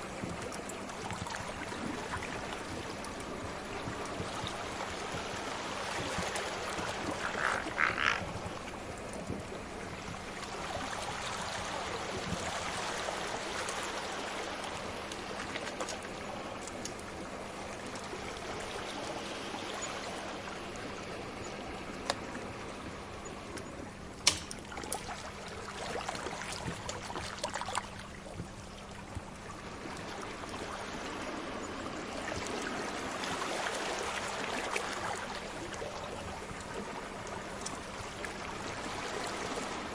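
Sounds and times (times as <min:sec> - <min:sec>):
sea waves washing in: 0:00.0 - 0:28.2, 0:29.3 - 0:39.9.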